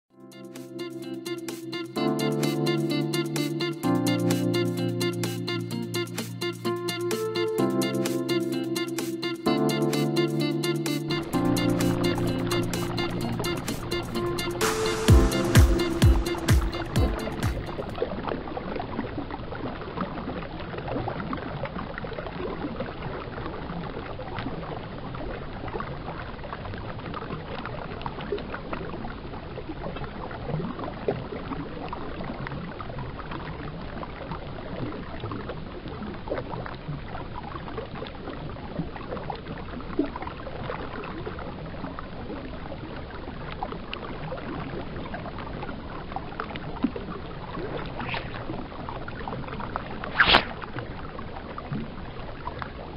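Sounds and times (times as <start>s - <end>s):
flowing river water: 8.0s - 52.9s.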